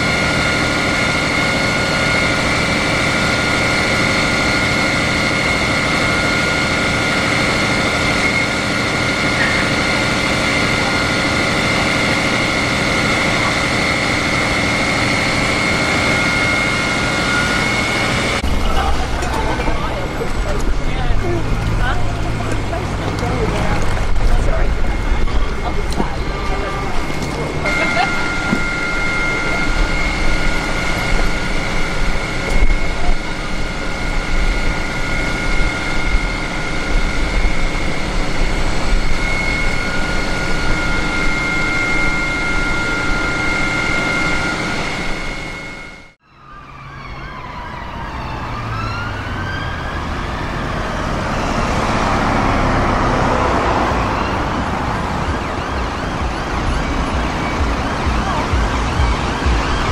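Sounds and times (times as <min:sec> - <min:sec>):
high two-note whine: 0:00.0 - 0:47.4, 0:49.4 - 0:59.9
ambulance siren wailing: 0:00.0 - 0:59.9
fire engine running: 0:00.0 - 0:59.9
traffic: 0:00.0 - 0:59.9.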